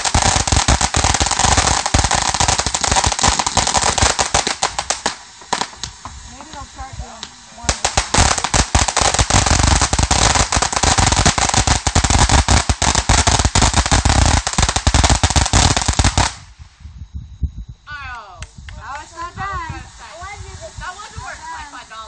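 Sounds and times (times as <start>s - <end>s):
firework cracks and pops: 0.0s - 16.6s, 18.4s - 21.9s.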